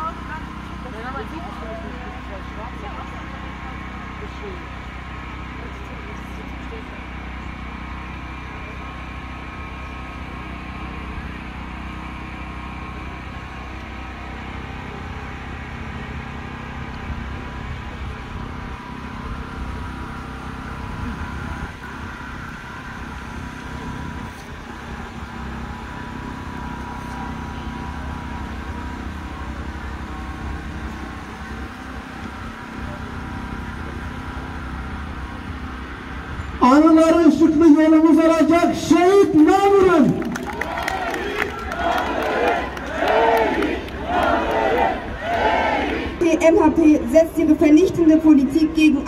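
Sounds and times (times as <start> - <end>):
distant road traffic hum: 0.0 - 49.0.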